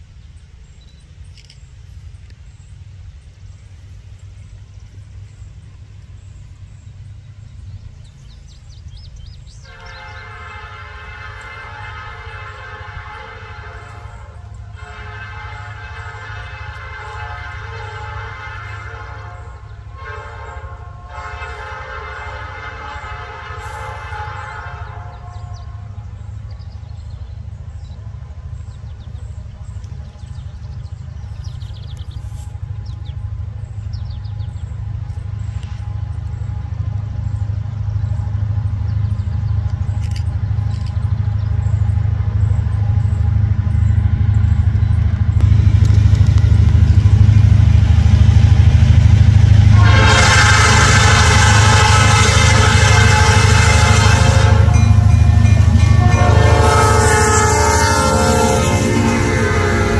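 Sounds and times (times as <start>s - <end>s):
songbirds chirping: 0.0s - 49.2s, 50.7s - 59.9s
diesel locomotive rumble: 0.0s - 59.9s
train horn long blast: 9.5s - 59.9s.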